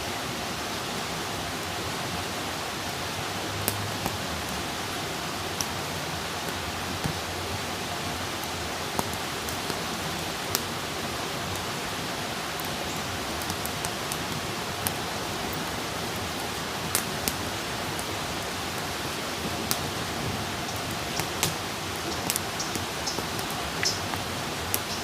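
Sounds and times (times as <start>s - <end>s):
fire hissing: 2.2s - 25.0s
fire crackling and popping: 2.9s - 25.0s.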